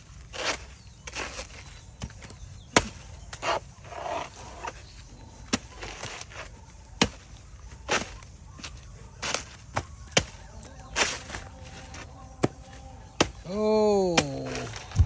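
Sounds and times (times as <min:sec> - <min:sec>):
blade chopping into tree: 0:00.3 - 0:04.8, 0:05.5 - 0:15.0.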